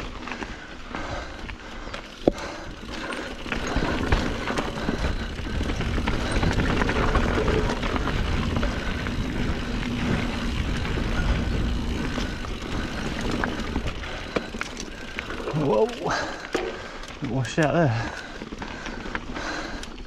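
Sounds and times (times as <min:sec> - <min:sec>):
bike tyres on rough trail: 0:00.0 - 0:20.0.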